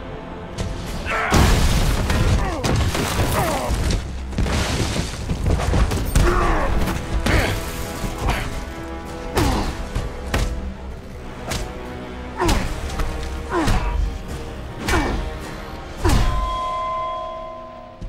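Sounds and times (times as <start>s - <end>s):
dramatic score music: 0.0s - 18.0s.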